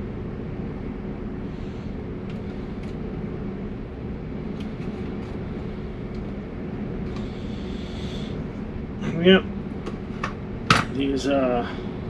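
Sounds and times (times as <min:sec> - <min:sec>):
faint hum: 0:00.0 - 0:12.0
low machine rumble: 0:00.0 - 0:12.0.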